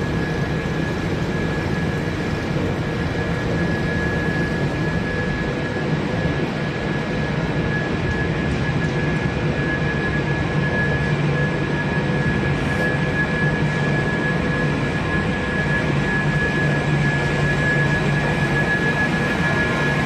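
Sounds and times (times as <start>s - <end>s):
constant high machine whine: 0.0s - 20.0s.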